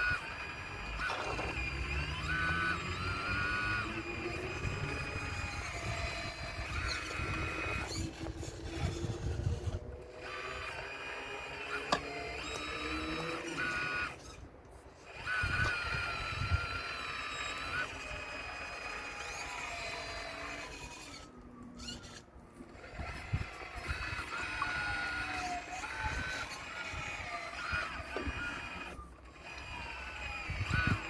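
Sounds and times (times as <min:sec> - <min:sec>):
electric motors and hydraulic pump whining: 0:00.0 - 0:31.0.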